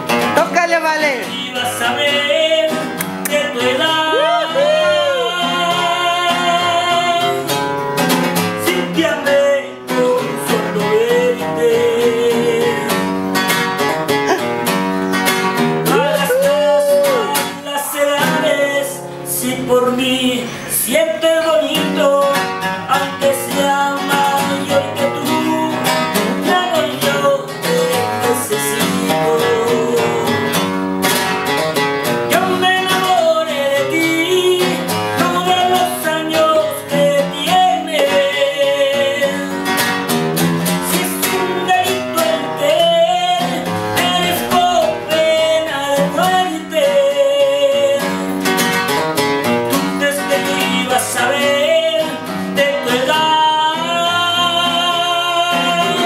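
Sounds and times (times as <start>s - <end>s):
classical guitar strumming: 0.0s - 56.0s
man singing: 0.2s - 13.2s, 14.2s - 30.7s, 32.2s - 39.9s, 40.6s - 48.6s, 49.7s - 56.0s.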